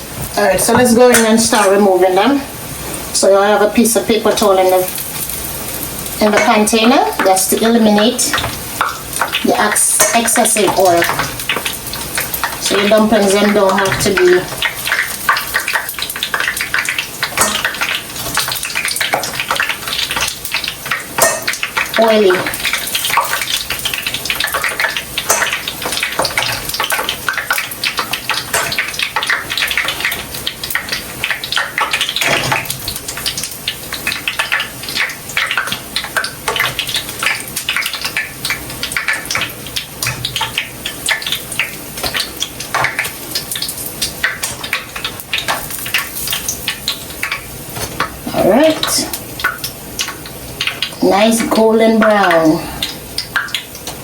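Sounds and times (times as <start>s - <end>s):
dumplings sizzling in hot oil: 0.0s - 54.0s.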